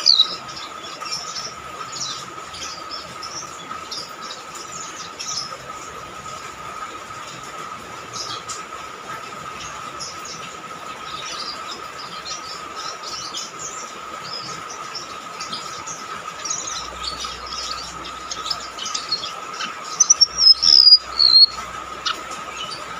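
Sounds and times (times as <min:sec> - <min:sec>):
bird chirping and twittering: 0:00.0 - 0:05.9, 0:09.5 - 0:22.9.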